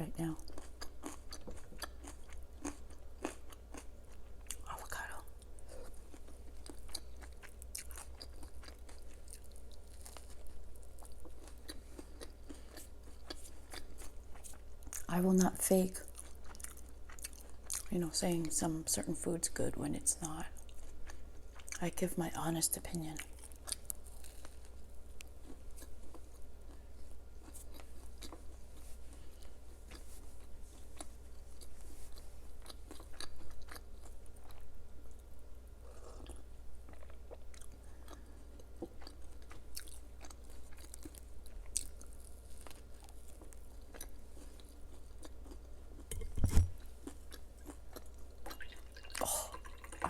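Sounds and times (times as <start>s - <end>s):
chewing crisp food: 0.1s - 19.0s, 20.1s - 22.0s, 22.8s - 50.0s.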